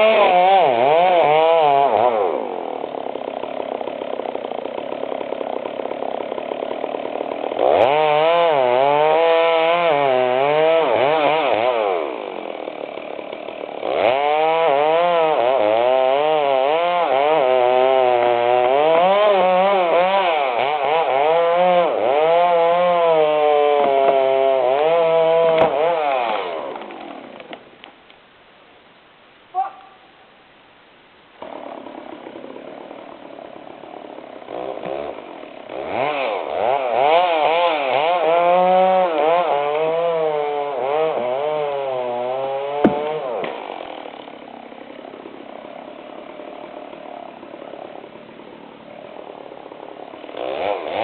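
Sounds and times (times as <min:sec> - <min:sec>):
chainsaw cutting wood: 0:00.0 - 0:28.2, 0:31.4 - 0:51.0.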